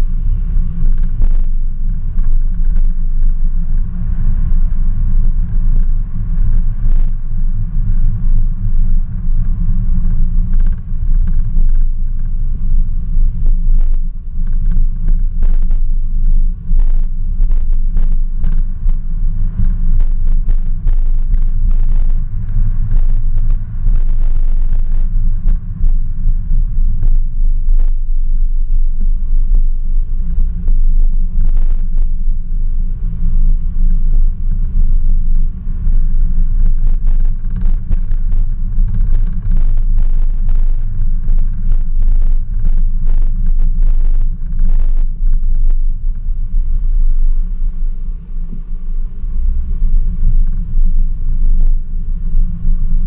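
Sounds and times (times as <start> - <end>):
car driving rumble: 0.0 - 53.0.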